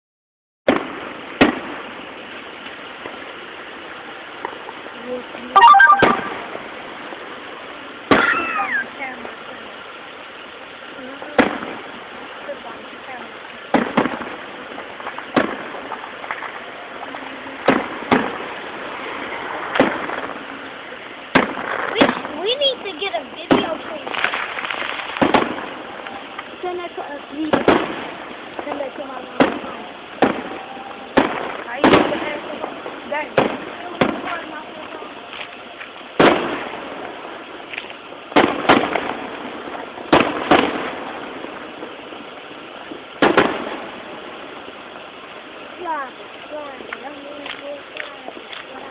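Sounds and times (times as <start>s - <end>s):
fireworks bursting with echo: 0.7s - 48.9s.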